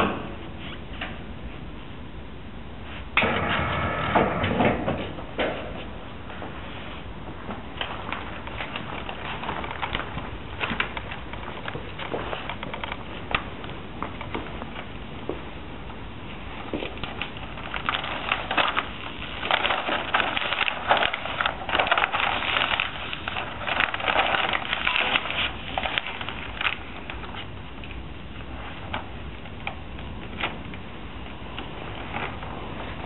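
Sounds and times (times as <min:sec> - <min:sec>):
laminating film crackling: 0:06.4 - 0:33.0.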